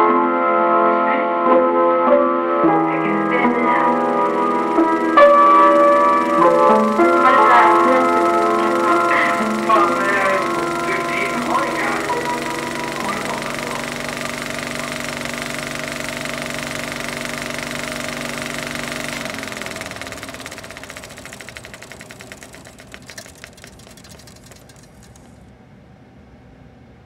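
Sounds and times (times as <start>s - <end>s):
machine hum: 2.6s - 27.0s
small machine clatter: 2.7s - 25.5s.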